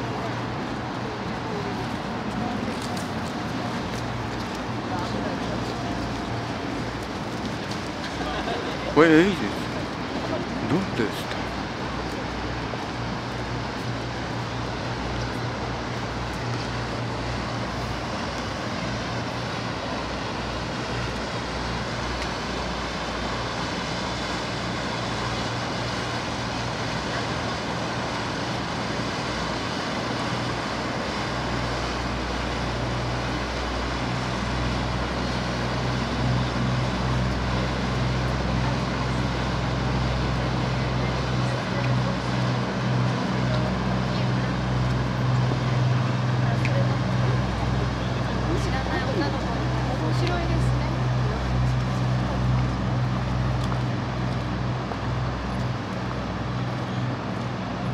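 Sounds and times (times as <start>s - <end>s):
boat engine hum: 0.0s - 57.9s.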